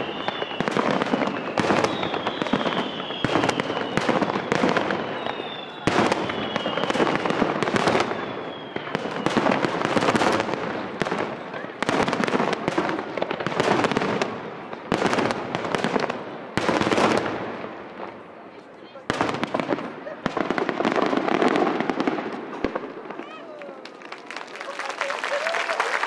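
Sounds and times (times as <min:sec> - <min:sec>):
firework crackle: 0:00.0 - 0:26.0.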